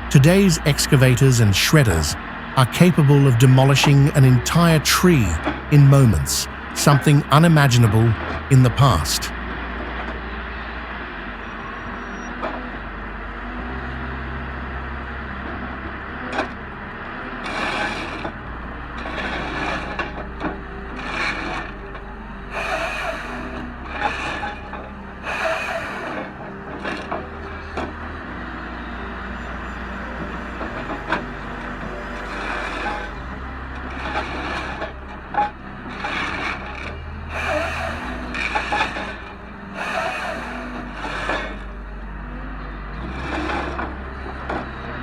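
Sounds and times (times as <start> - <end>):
heavy machine engine running: 0.0 - 45.0.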